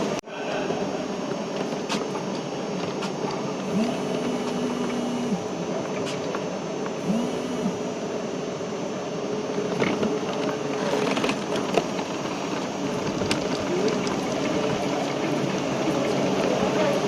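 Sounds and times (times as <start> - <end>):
engines running: 0.0 - 17.0
traffic hum: 0.0 - 17.0.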